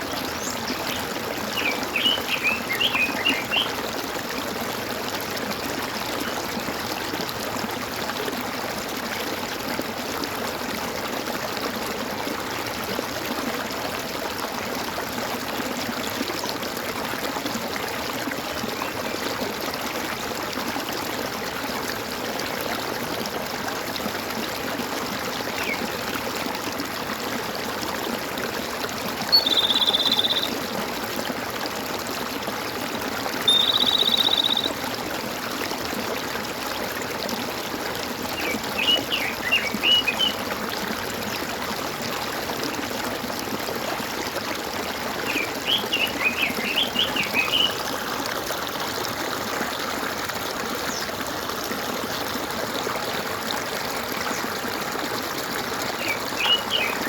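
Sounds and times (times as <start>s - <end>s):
stream water gurgling: 0.0s - 57.0s.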